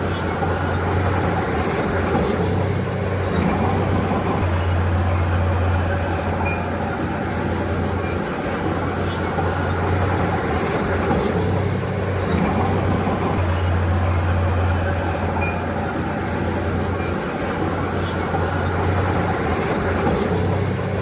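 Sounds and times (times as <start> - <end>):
bulldozer diesel engine droning: 0.0 - 21.0.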